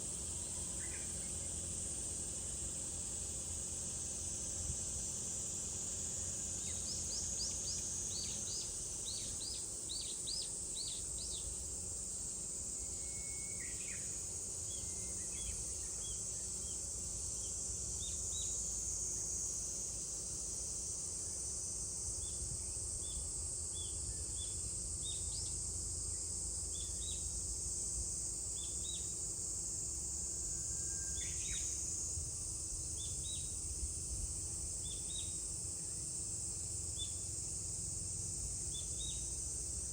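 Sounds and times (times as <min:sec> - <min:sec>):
cicada drone: 0:00.0 - 0:39.9.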